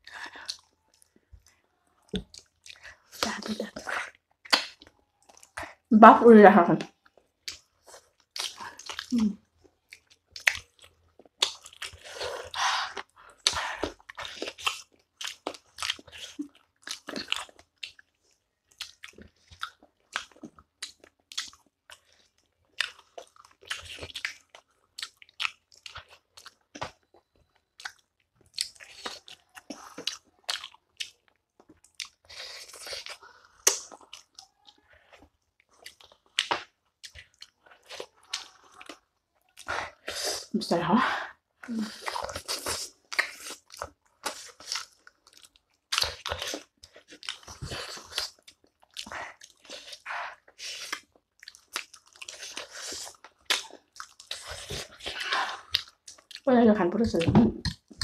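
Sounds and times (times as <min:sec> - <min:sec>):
wet chewing and sucking: 0:07.1 - 0:40.5, 0:41.6 - 0:56.5.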